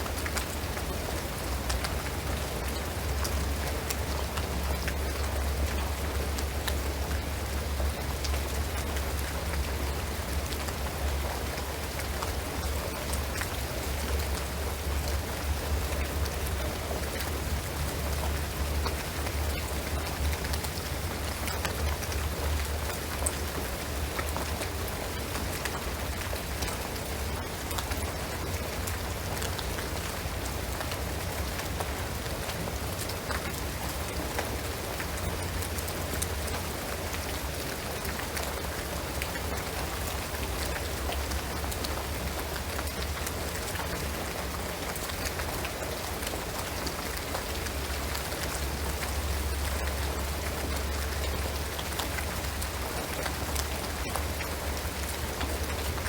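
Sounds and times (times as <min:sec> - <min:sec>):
rain on a shingled roof: 0:00.0 - 0:56.0.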